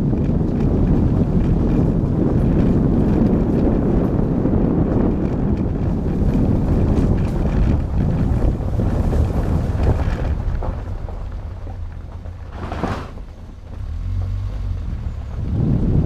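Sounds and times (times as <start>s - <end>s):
car driving on gravel: 0.0s - 16.0s
wind noise on microphone: 0.0s - 16.0s.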